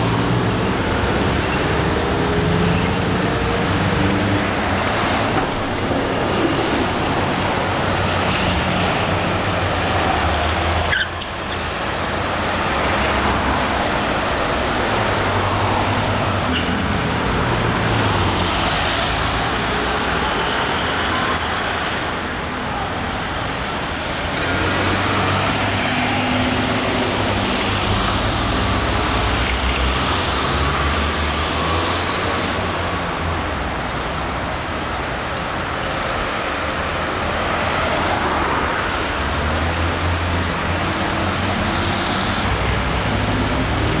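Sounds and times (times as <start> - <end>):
buses and cars passing: 0.0 - 44.0.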